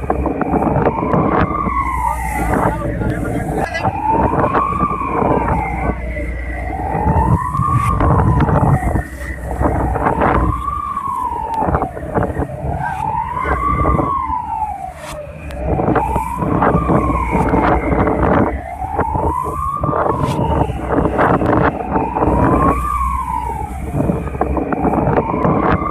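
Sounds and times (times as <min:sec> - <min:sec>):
alarm siren wailing: 0:00.0 - 0:25.9
sea: 0:00.0 - 0:25.9
wind: 0:00.0 - 0:25.9.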